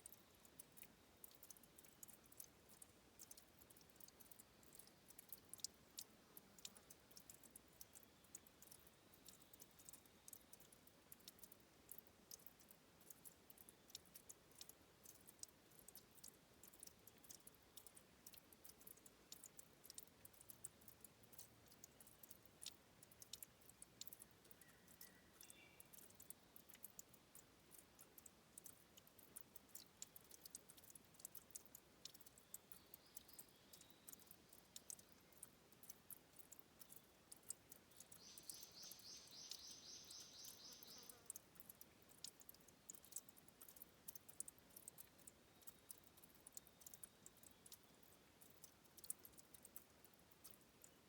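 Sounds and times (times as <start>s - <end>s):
water dripping and trickling: 0.0s - 51.0s.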